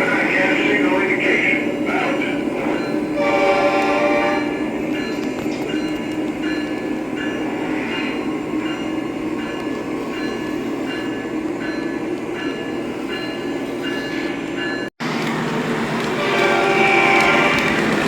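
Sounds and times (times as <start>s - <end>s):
model train rumbling: 0.0s - 13.4s, 14.1s - 18.0s.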